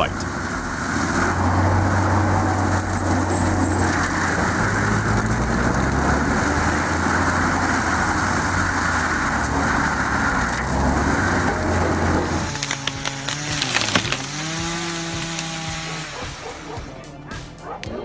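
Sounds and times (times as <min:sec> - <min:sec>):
broad grinding noise: 0:00.0 - 0:17.2
diesel engine running: 0:00.0 - 0:17.4.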